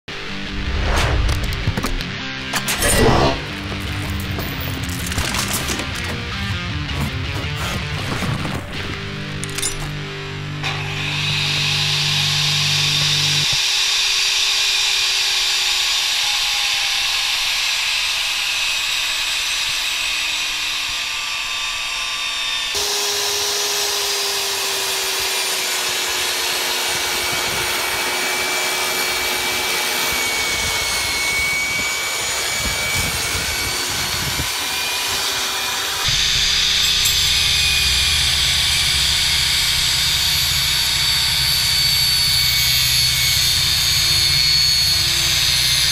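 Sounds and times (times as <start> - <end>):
saw blade ripping wood: 1.0 - 10.0, 10.6 - 21.0, 22.2 - 45.9
table saw motor and blade whine: 2.5 - 8.2, 9.4 - 45.9.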